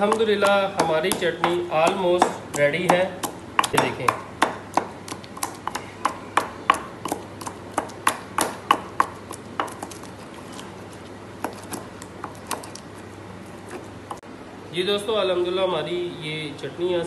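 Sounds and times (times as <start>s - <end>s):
pestle pounding in stone mortar: 0.0s - 14.2s.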